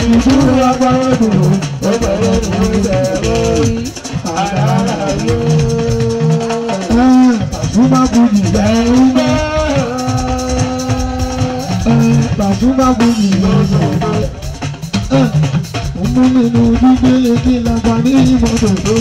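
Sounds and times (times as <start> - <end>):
drums: 0.0 - 19.0
man singing into a microphone: 0.0 - 19.0.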